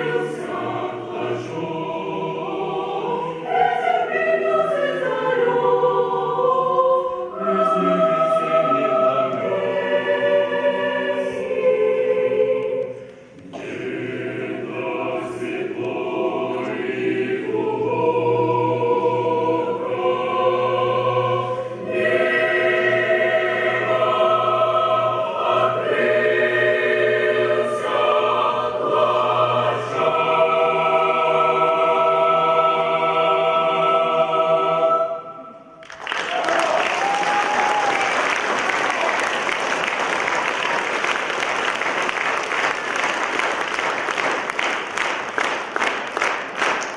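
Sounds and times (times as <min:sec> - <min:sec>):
mixed choir singing: 0:00.0 - 0:45.1.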